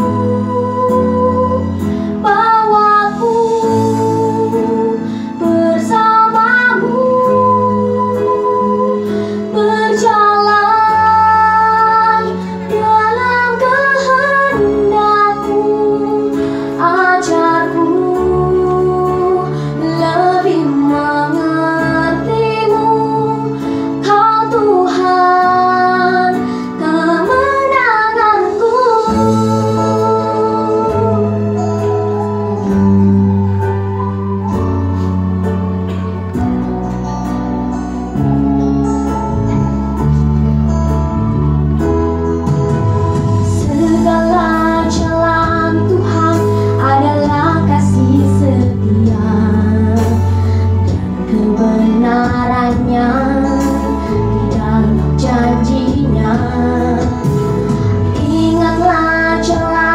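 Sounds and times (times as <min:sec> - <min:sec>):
girl singing into a microphone: 0:00.0 - 0:31.9, 0:43.6 - 0:59.9
instrumental backing of held chords: 0:00.0 - 0:59.9.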